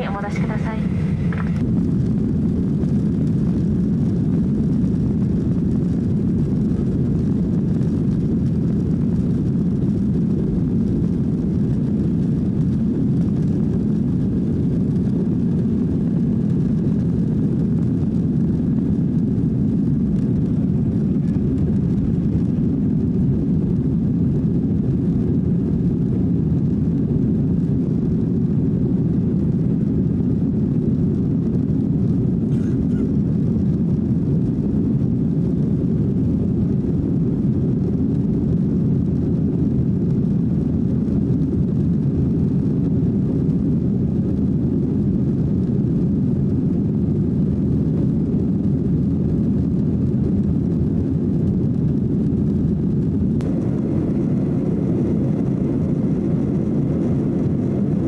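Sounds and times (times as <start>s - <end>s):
jet engine rumble inside cabin: 0.0s - 58.0s.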